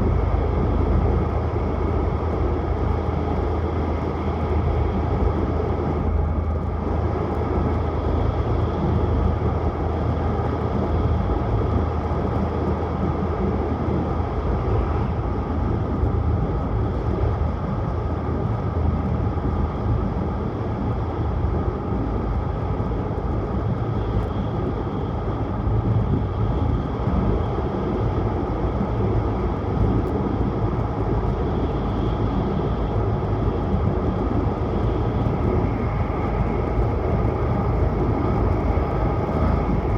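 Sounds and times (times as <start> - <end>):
train running inside carriage: 0.0 - 39.9.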